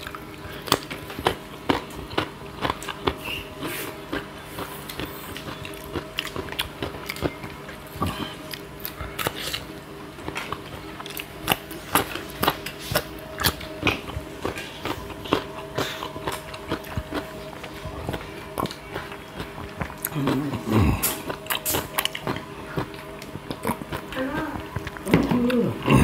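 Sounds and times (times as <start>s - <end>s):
chewing crisp cucumber crunches: 0.0s - 25.9s
faint steady hum: 0.0s - 26.0s.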